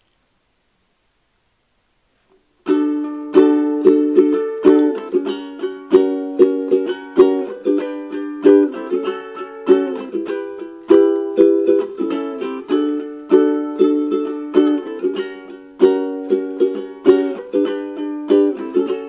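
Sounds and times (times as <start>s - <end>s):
ukulele strumming: 2.6s - 19.0s.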